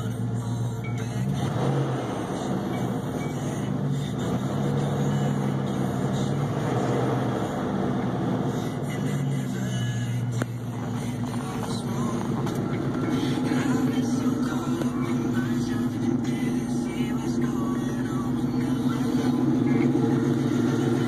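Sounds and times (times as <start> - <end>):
car engine revving lightly: 0.0 - 21.0.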